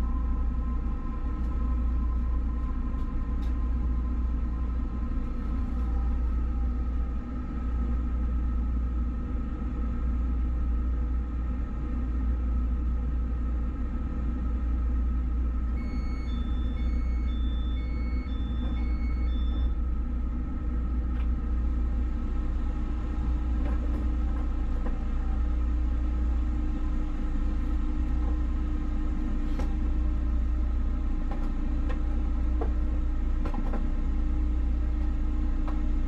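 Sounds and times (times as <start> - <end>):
engine running rumble: 0.0 - 36.0
steady hum: 0.0 - 36.0.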